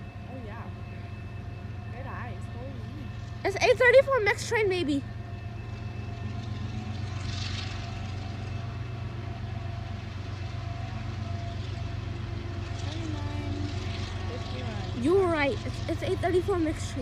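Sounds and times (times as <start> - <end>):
engine humming: 0.0 - 17.0
faint steady tones: 0.0 - 17.0.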